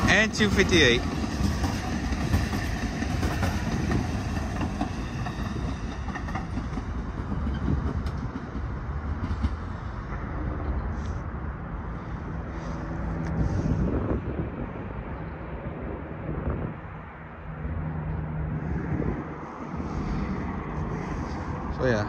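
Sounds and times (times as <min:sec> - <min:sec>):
light rail train passing: 0:00.0 - 0:22.0.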